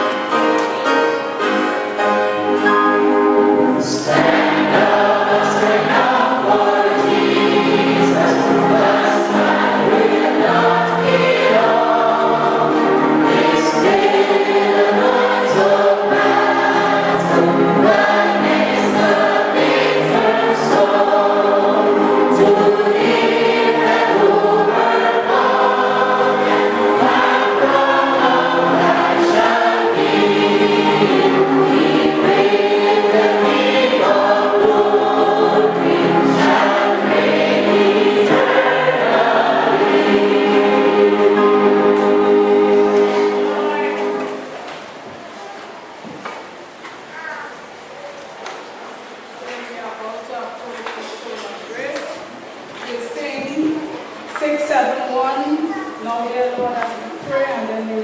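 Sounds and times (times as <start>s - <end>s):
congregation singing a hymn: 0.0s - 47.1s.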